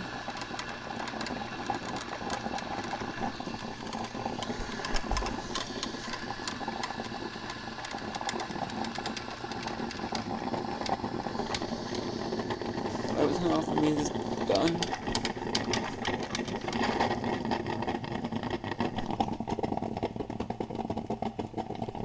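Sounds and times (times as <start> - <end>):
drip coffee maker gurgling: 0.0 - 22.0.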